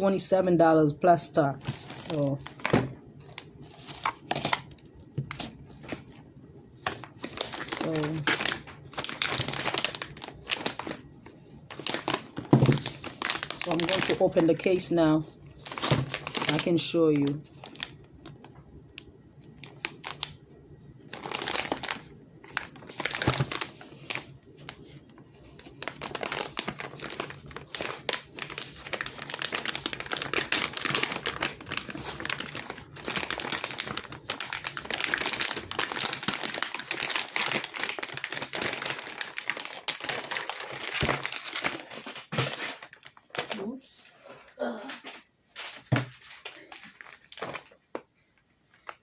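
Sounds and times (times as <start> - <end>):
packaging crinkling and rustling: 1.6 - 20.4, 21.0 - 49.0.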